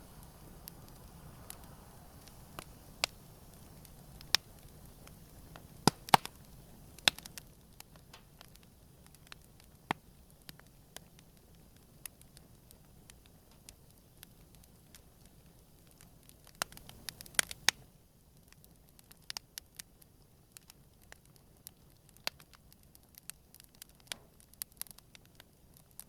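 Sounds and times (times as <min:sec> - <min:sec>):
low hiss of flames: 0:00.0 - 0:26.0
burning wood popping and snapping: 0:00.2 - 0:26.0.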